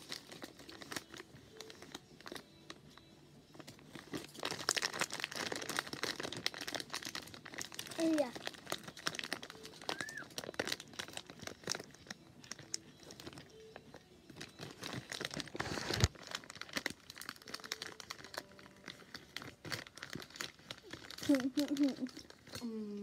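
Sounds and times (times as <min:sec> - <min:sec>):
plastic packaging crinkling: 0:00.0 - 0:02.8, 0:03.5 - 0:23.0.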